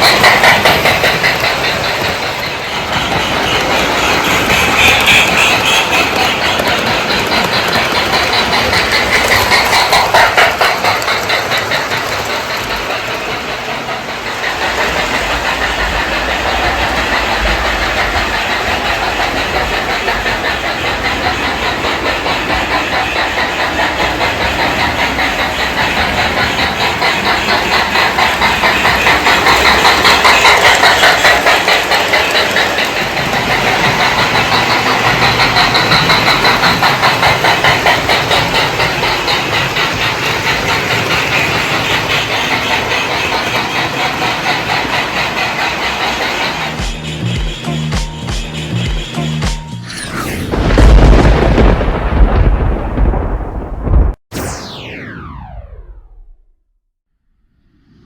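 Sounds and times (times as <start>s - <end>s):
toy train steam chuffing: 0.0s - 49.9s
toy train wheels on track: 0.0s - 49.9s.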